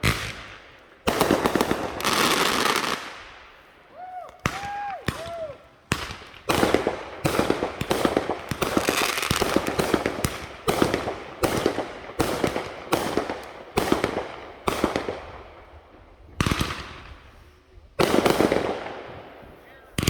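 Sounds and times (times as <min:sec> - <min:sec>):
fireworks bangs: 0:00.0 - 0:17.4, 0:18.0 - 0:20.0
fireworks crackling: 0:00.0 - 0:20.0.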